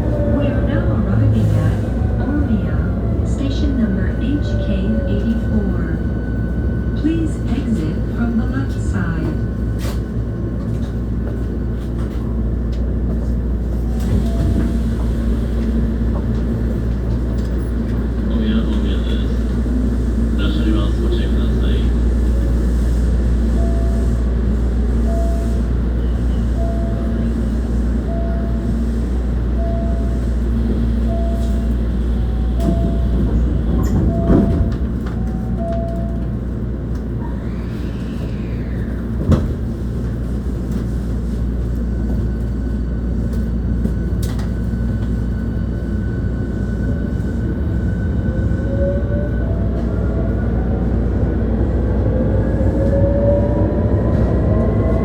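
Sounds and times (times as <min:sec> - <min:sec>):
electric train running rumble: 0:00.0 - 0:55.0.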